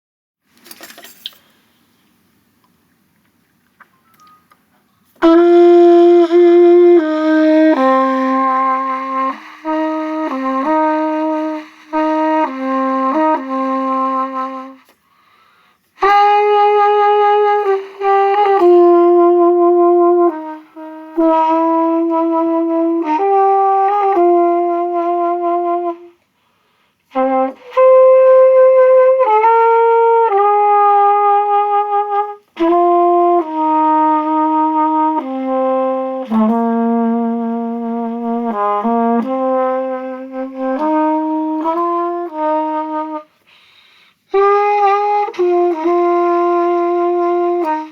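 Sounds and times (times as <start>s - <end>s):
solo trumpet melody: 3.9s - 47.9s.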